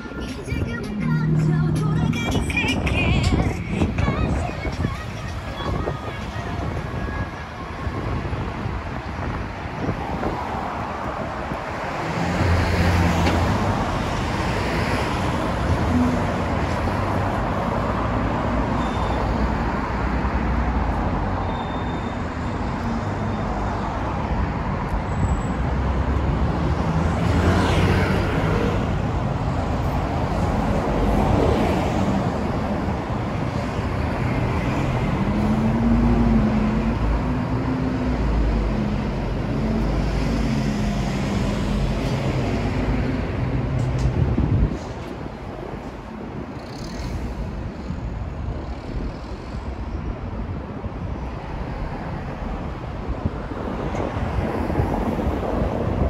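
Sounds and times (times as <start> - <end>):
cars and scooters passing: 0.0 - 56.0.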